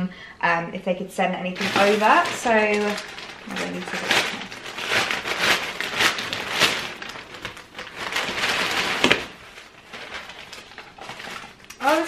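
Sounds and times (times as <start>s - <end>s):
packaging rustling and crinkling: 1.6s - 12.0s.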